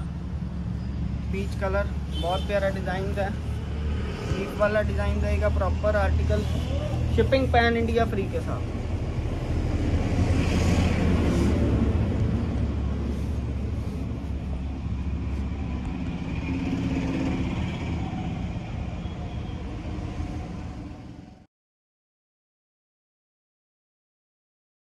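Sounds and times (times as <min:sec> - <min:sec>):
low rumble of road traffic: 0:00.0 - 0:21.5
passing vehicle: 0:00.0 - 0:21.5.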